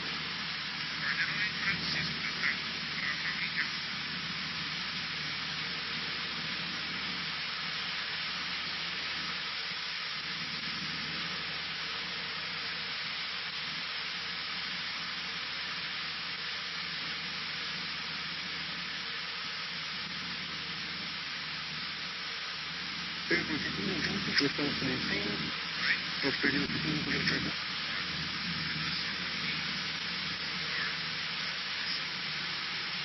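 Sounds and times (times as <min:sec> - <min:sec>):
engine and airflow hiss: 0:00.0 - 0:33.0
faint low engine drone: 0:00.0 - 0:33.0.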